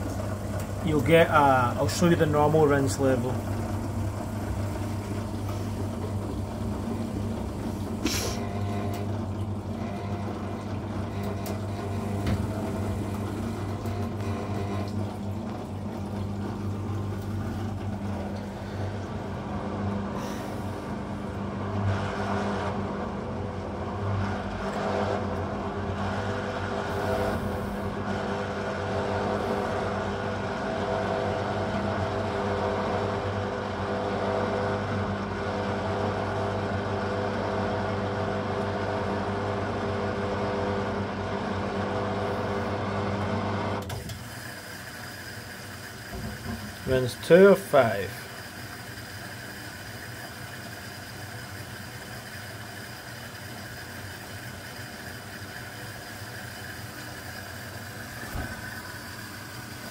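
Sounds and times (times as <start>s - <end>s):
washing machine hum: 0.0s - 59.9s.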